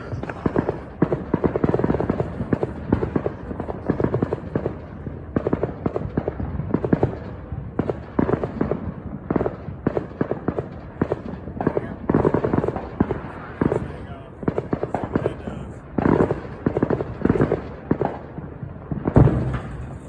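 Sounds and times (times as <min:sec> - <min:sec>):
fireworks popping and banging: 0:00.0 - 0:20.0.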